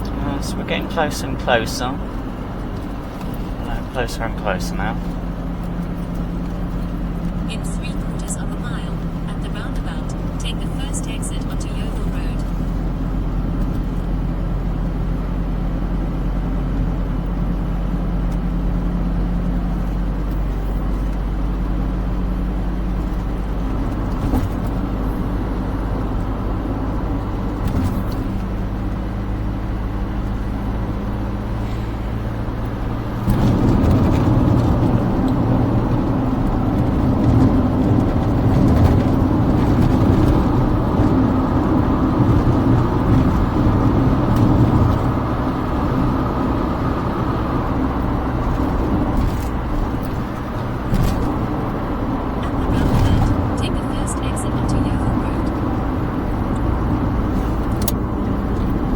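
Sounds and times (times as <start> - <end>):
car engine hum: 0.0 - 58.9
road noise: 0.0 - 58.9.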